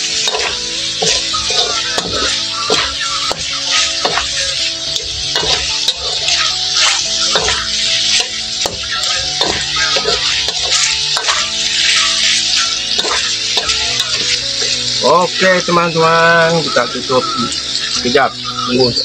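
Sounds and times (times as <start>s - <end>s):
metal spatula scraping wok: 0.0s - 16.0s
meat sizzling in a wok: 0.0s - 19.0s.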